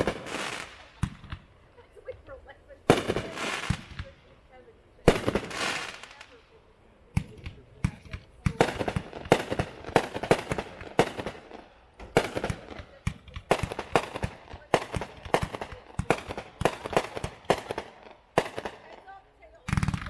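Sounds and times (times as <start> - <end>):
firework bangs: 0.0 - 4.4, 5.0 - 6.4, 7.1 - 20.0.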